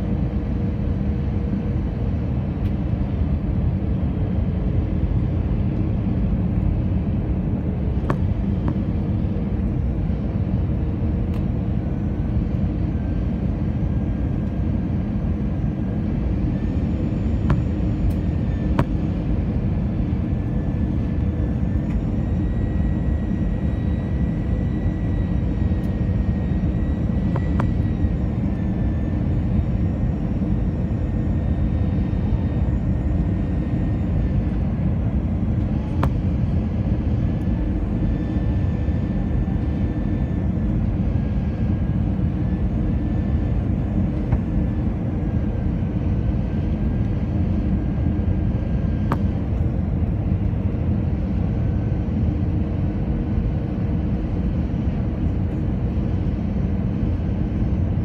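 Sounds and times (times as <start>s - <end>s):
aircraft cabin roar: 0.0s - 58.0s
faint high whine: 0.0s - 58.0s.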